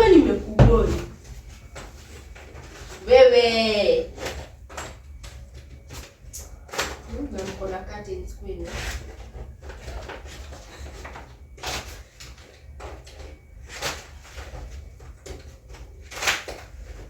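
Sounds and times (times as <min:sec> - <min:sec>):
rattling and shuffling: 0:00.0 - 0:17.0.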